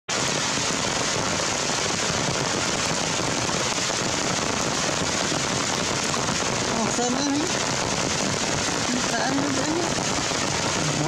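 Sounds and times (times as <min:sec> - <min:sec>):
dense crackling hiss: 0:00.1 - 0:11.0.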